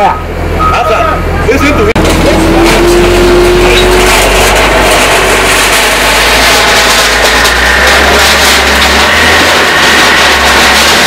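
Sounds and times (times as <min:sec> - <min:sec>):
diesel engine under load: 0:00.0 - 0:11.0
steady whine: 0:00.0 - 0:11.0
debris crunching and clattering: 0:02.0 - 0:11.0.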